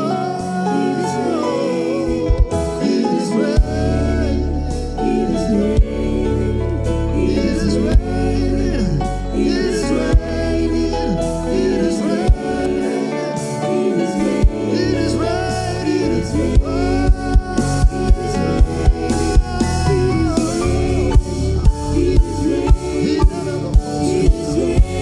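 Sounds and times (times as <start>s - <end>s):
gospel music with singing: 0.0s - 25.0s.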